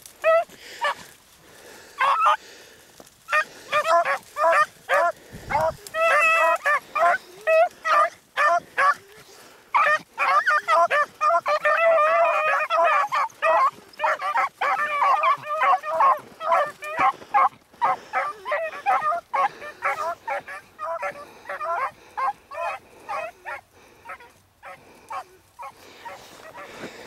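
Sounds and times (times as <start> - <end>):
dogs baying: 0.2 - 1.1, 1.7 - 2.4, 3.3 - 27.0.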